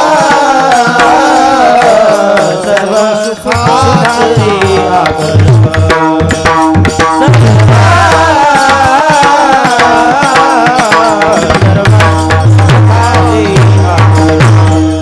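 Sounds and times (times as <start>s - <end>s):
hand drum playing: 0.0s - 15.0s.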